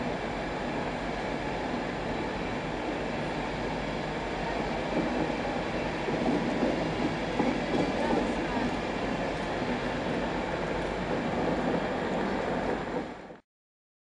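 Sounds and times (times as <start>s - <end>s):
train wheels rumbling on track: 0.0s - 13.4s.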